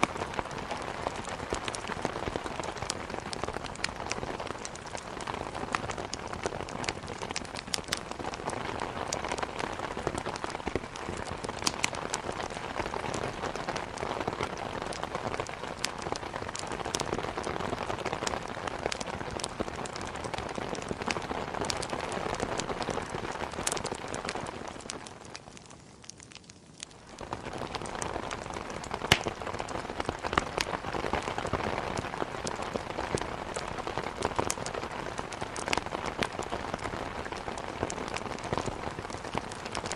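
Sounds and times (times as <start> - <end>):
heavy rain on a surface: 0.0 - 39.9
wood fire crackling: 0.0 - 39.9.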